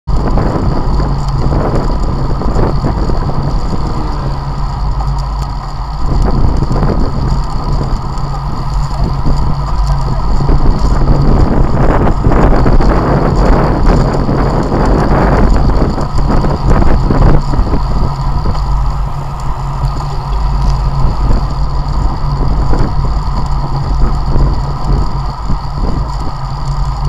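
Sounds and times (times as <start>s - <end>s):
road and tyre noise: 0.1s - 27.0s
wind buffeting microphone: 0.1s - 27.0s.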